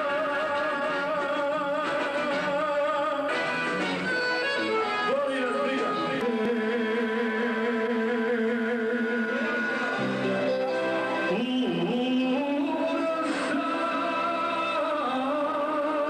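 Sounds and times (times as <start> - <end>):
man singing into a microphone: 0.0 - 10.6, 11.2 - 16.0
electric guitar: 0.0 - 16.0.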